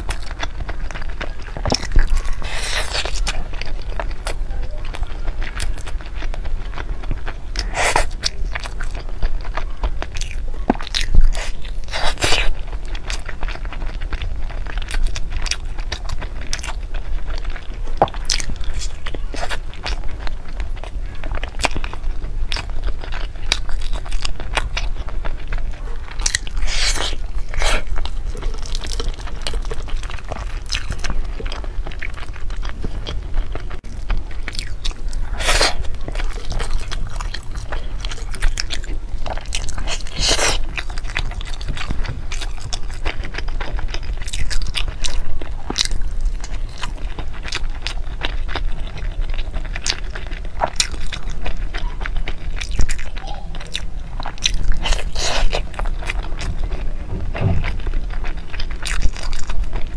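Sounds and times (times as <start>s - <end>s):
chewing sticky rice: 0.0s - 59.9s
sticky rice tearing: 0.0s - 59.9s.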